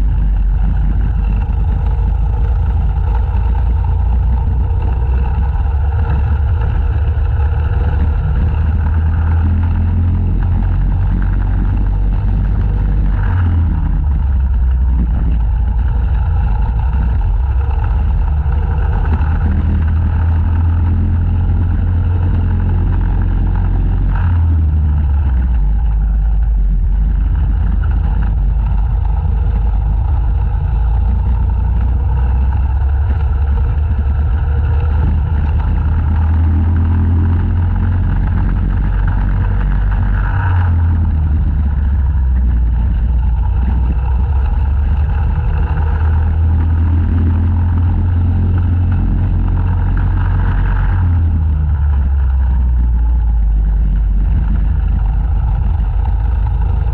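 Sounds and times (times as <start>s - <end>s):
go-kart engine running hard: 0.0s - 56.9s.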